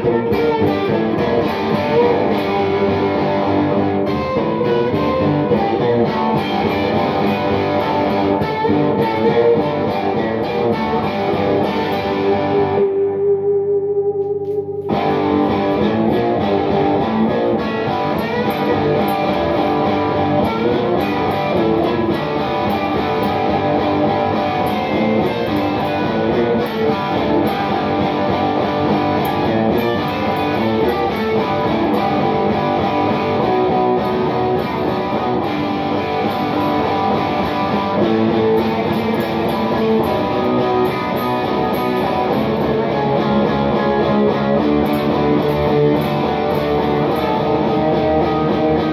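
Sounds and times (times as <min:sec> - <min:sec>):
electric guitar strumming chords: 0:00.0 - 0:48.9.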